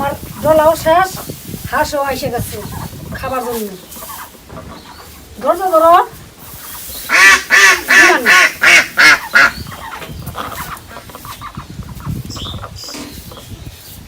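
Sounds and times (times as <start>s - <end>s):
ducks quacking: 0.0s - 13.6s.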